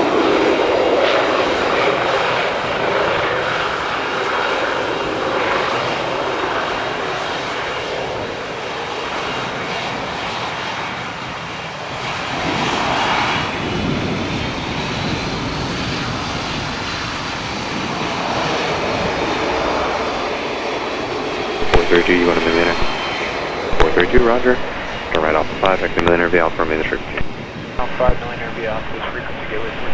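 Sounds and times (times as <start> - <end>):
propeller noise: 0.0 - 29.9
turboprop engine whine: 0.0 - 29.9.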